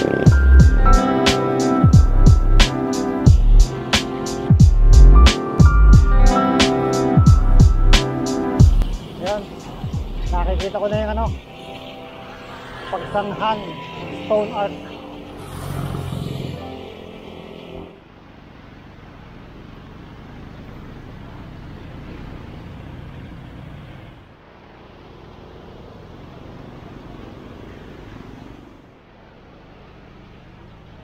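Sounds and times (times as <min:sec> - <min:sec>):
traffic engines rumbling: 0:00.0 - 0:31.0.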